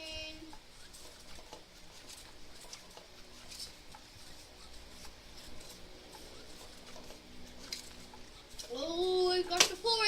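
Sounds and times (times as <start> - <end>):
low motor hum: 0.0 - 10.0
scratchy rustles and ticks: 0.0 - 10.0.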